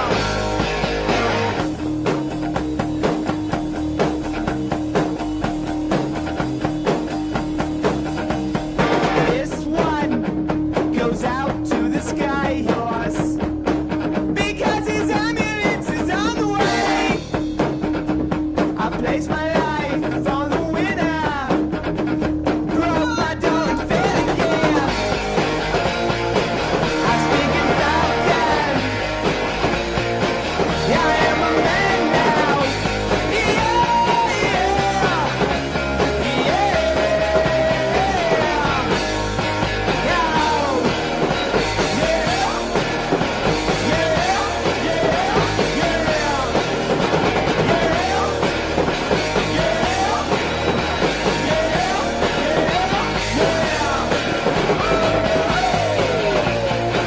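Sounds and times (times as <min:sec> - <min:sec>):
rock music with singing: 0:00.0 - 0:57.0.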